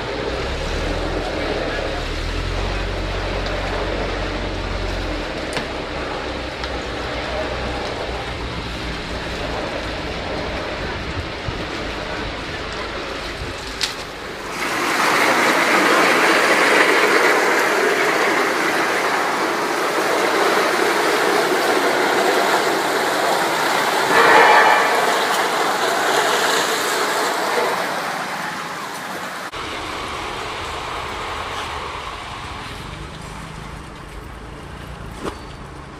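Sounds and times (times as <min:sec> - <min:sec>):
rolling mill rushing noise: 0:00.0 - 0:34.8.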